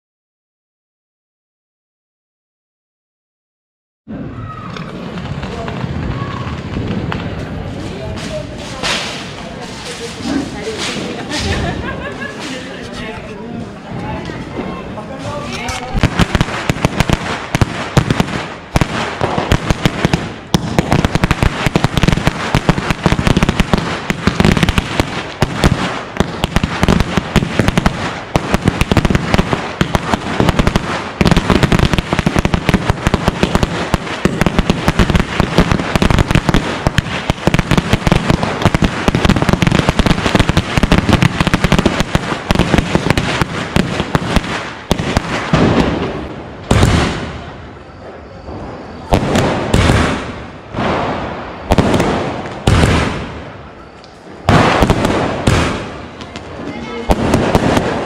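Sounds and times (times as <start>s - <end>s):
firecrackers banging and crackling: 4.1s - 58.0s.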